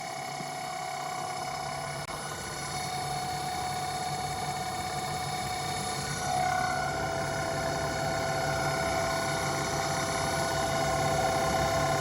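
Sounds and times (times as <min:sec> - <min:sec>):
lathe motor whine: 0:00.0 - 0:12.0.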